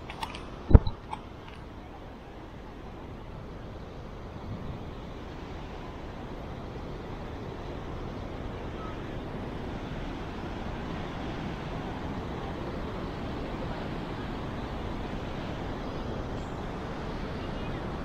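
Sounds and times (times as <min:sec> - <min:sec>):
rushing water roar: 0:00.0 - 0:18.0.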